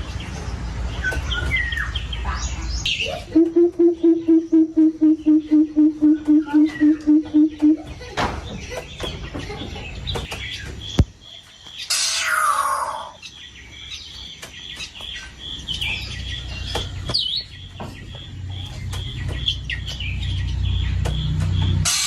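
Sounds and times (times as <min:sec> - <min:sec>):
small bird high chirps: 0:00.0 - 0:08.0, 0:09.8 - 0:22.0.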